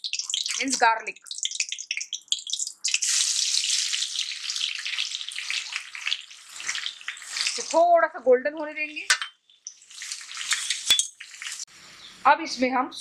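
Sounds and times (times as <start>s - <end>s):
dense oil sizzle: 0.0s - 7.9s, 9.5s - 12.3s
seeds crackling in hot oil: 0.0s - 7.9s, 8.8s - 12.2s.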